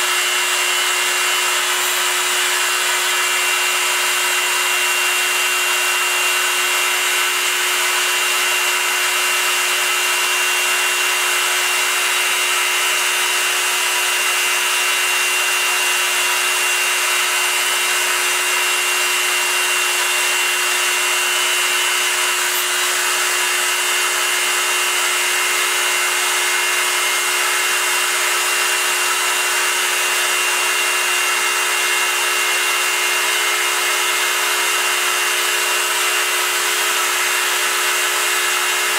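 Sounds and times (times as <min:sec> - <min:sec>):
milling machine high-pitched whine: 0:00.0 - 0:31.2.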